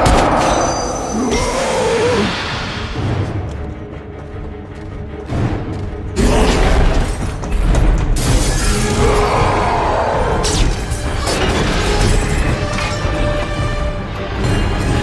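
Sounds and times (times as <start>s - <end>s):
dramatic film music: 0.0s - 15.0s.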